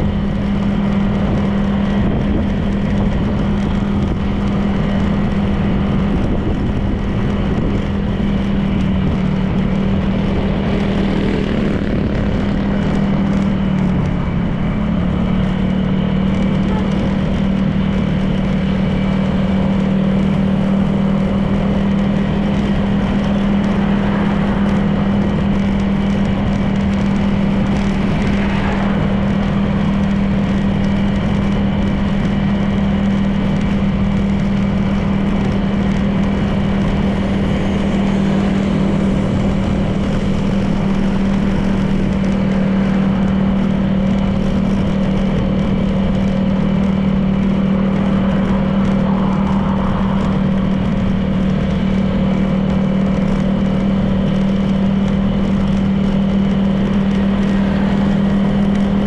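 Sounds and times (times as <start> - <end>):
road and wind noise: 0.0 - 59.0
scooter engine cruising: 0.0 - 59.0.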